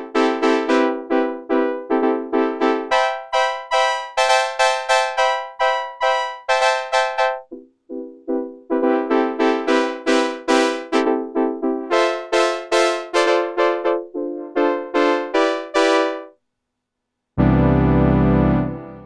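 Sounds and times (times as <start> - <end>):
synthesizer brass notes: 0.0 - 16.3, 17.4 - 19.0.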